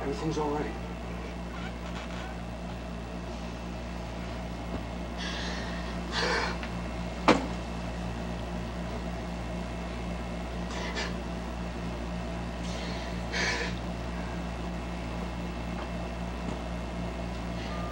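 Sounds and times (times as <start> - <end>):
electrical hum and hiss: 0.0 - 17.9.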